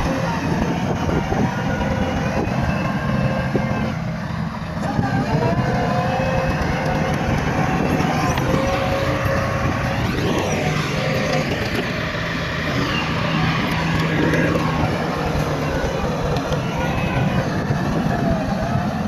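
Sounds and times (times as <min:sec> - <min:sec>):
bulldozer diesel engine running: 0:00.0 - 0:19.0
thin whining tone: 0:00.0 - 0:19.0.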